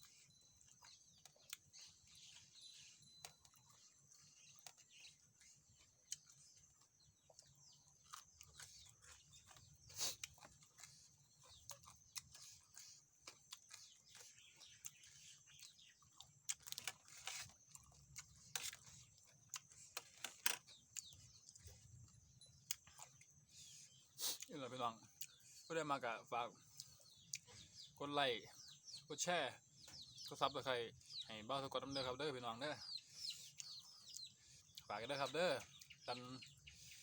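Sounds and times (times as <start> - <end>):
chewing and crunching: 0.0 - 37.0.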